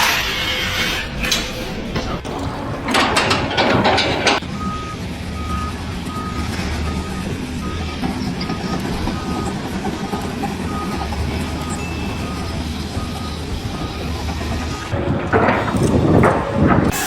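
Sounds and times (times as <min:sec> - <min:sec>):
low engine rumble: 0:00.0 - 0:17.0
reversing alarm beeping: 0:02.2 - 0:17.0.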